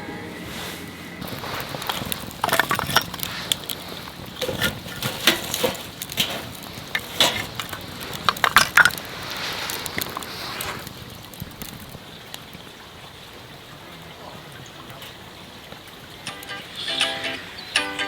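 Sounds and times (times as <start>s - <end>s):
campfire crackling and popping: 1.2s - 18.0s.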